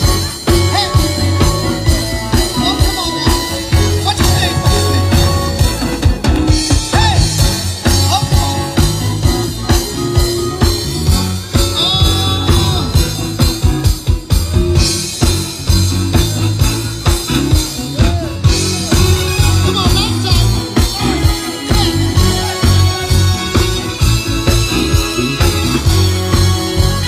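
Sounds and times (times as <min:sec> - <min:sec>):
upbeat music with heavy bass: 0:00.0 - 0:27.0.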